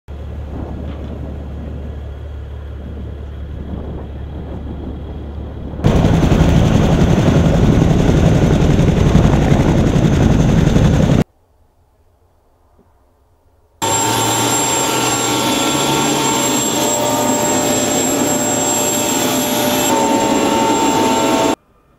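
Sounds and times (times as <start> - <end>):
helicopter rotor chopping: 0.2 - 11.2, 13.8 - 21.6.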